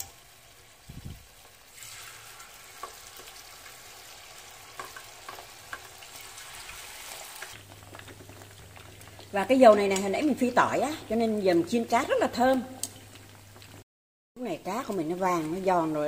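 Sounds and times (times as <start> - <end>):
fish sizzling in hot oil: 0.0 - 13.8.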